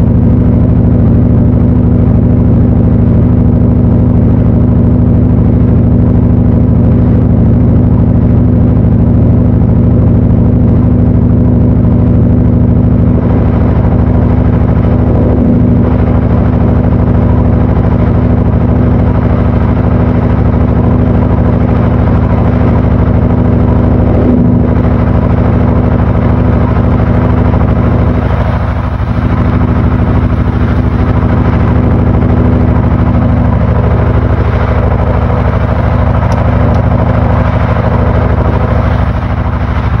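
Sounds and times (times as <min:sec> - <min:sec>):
washing machine motor humming: 0:00.0 - 0:40.0.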